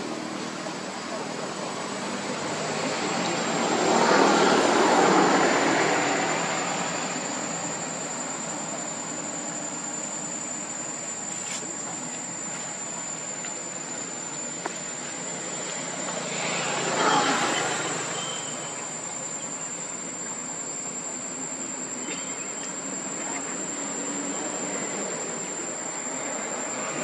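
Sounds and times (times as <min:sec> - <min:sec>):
broad rushing noise: 0:00.0 - 0:27.0
high-pitched insect drone: 0:00.0 - 0:27.0.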